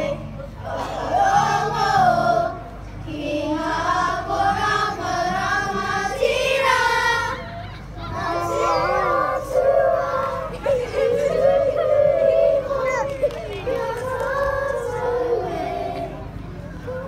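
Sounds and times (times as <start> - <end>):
children singing together: 0.0 - 7.4, 8.1 - 17.0.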